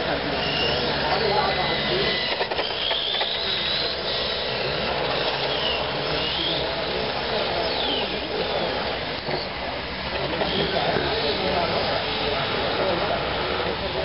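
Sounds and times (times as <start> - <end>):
rc motorcycle motor whining: 0.0 - 14.0.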